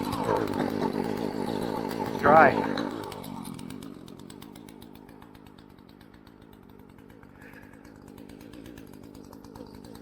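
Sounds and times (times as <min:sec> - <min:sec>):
chainsaw idling: 0:00.0 - 0:10.0.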